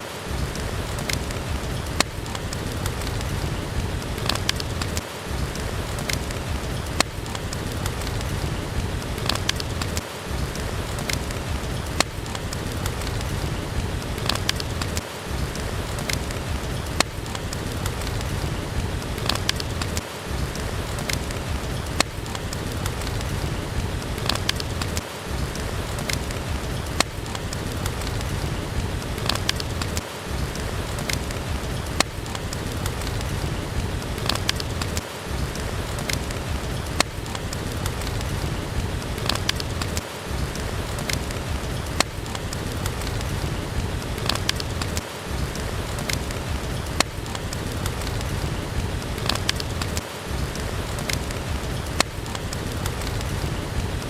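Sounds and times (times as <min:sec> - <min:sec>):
steady rain falling: 0:00.0 - 0:54.0
wood fire crackling: 0:00.0 - 0:54.0.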